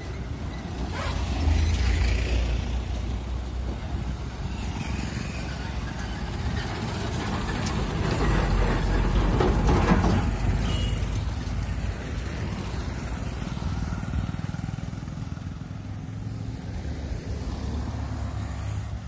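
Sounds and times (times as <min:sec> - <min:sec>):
constant low traffic rumble: 0:00.0 - 0:19.0.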